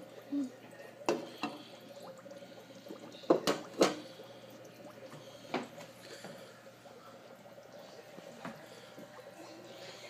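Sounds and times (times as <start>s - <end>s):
faint steady hum: 0.0s - 10.0s
water dripping into tank: 0.0s - 10.0s.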